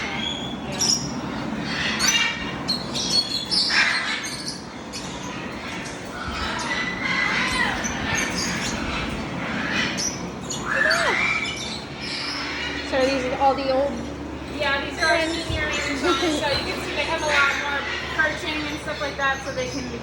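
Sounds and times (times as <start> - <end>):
parrots squawking and chattering: 0.0 - 20.0.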